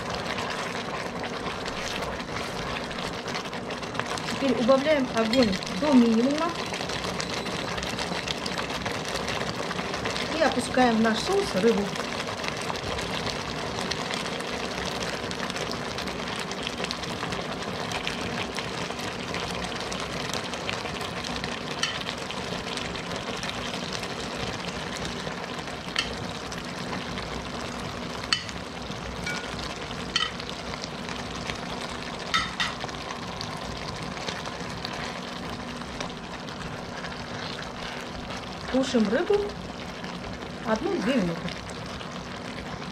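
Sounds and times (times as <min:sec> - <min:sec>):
sauce simmering and bubbling: 0:00.0 - 0:42.9.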